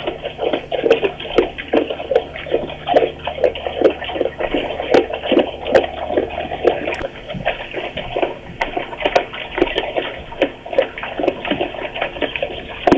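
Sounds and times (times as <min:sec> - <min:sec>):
bear licking and chewing: 0:00.0 - 0:12.9.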